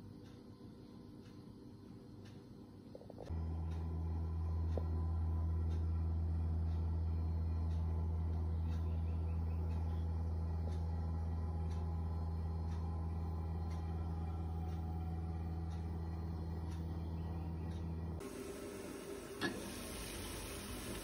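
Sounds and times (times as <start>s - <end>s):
low electrical hum: 0.0s - 21.0s
faint regular ticks: 0.1s - 18.2s.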